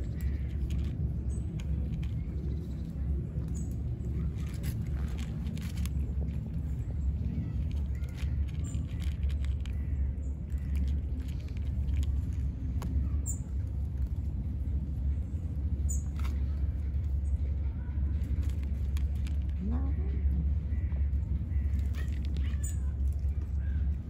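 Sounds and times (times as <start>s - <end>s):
cat crunching dry kibble: 0.0s - 17.3s, 18.0s - 19.9s, 21.2s - 24.0s
steady low rumble: 0.0s - 24.0s.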